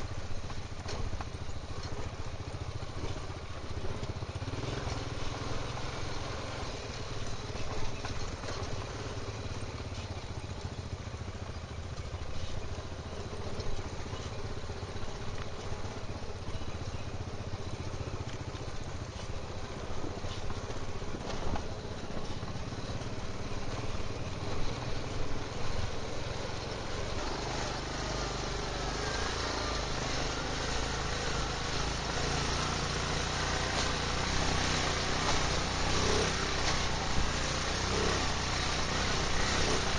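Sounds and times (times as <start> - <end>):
knocks and rattles over rocks: 0.0 - 39.9
quad bike engine running: 0.0 - 39.9.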